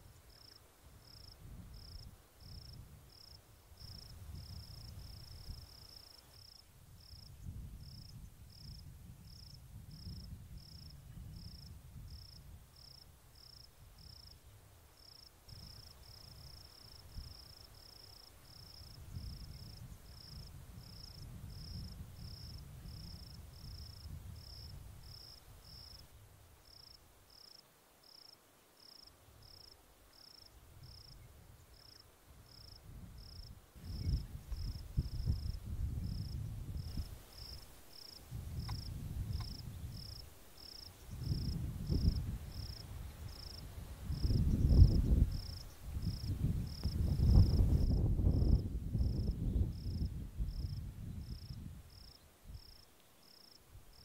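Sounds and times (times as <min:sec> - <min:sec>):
cricket chirping: 0:00.1 - 0:54.0.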